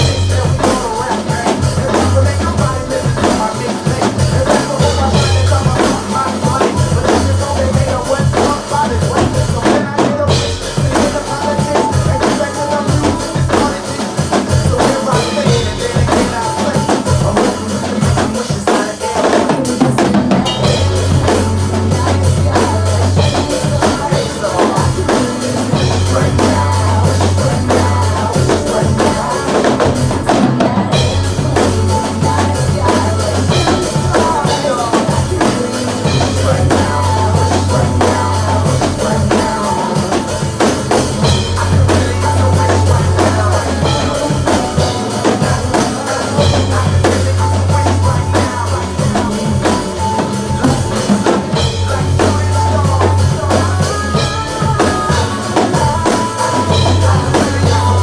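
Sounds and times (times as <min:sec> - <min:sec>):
drum kit playing: 0:00.0 - 0:58.0
recorded song with vocals: 0:00.0 - 0:58.0.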